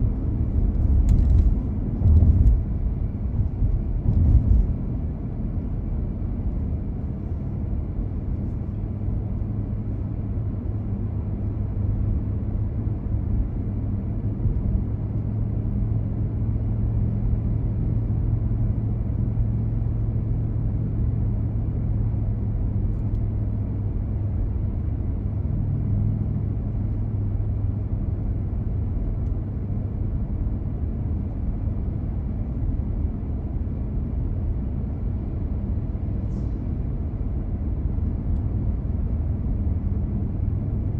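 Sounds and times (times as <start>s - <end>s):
car engine hum and road noise: 0.0s - 40.9s.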